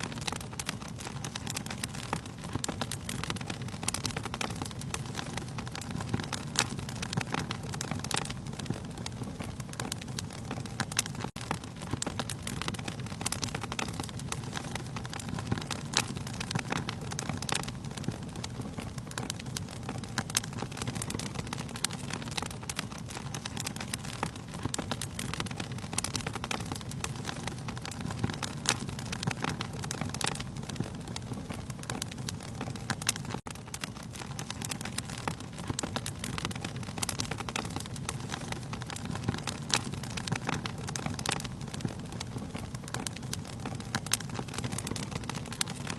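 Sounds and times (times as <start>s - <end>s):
fire crackling and popping: 0.0s - 45.9s
flames rushing: 0.0s - 45.9s.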